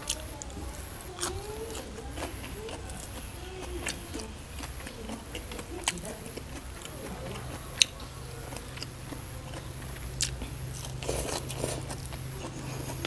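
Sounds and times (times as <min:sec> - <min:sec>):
chewing crisp raw vegetables: 0:00.0 - 0:13.0.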